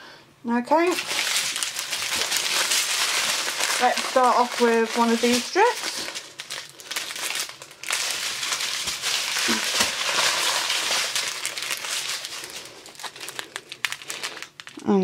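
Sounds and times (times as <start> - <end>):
plastic bags crinkling: 0.8 - 15.0.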